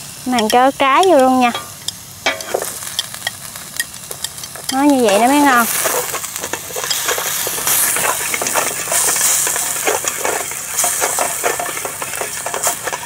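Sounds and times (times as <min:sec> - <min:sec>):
garlic and onion sizzling in pot: 0:00.0 - 0:13.0
utensil stirring and clicking on pot: 0:00.3 - 0:13.0.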